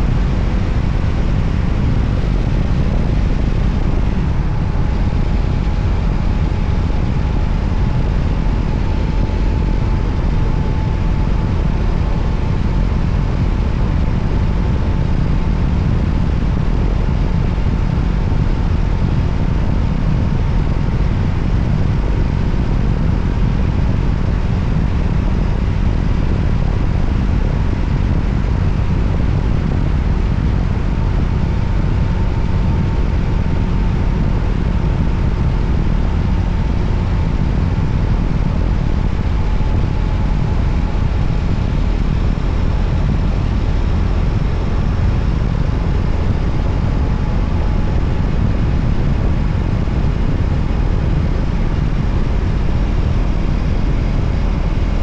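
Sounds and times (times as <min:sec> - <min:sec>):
wind rush over microphone: 0:00.0 - 0:55.0.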